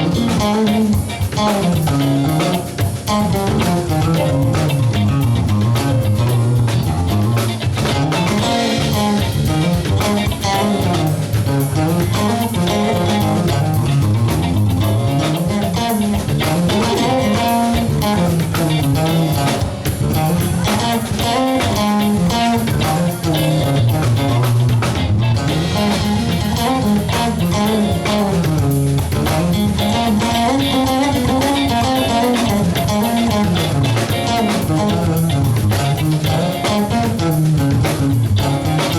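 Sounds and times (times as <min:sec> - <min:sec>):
bass guitar line: 0:00.0 - 0:38.9
drum kit: 0:00.0 - 0:38.9
electric guitar: 0:00.0 - 0:38.9.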